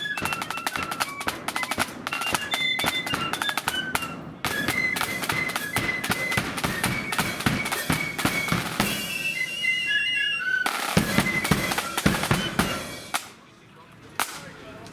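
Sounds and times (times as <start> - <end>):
snare drum beats: 0.0 - 9.7, 10.6 - 13.4, 14.2 - 14.5
flutes playing march melody: 0.0 - 13.4.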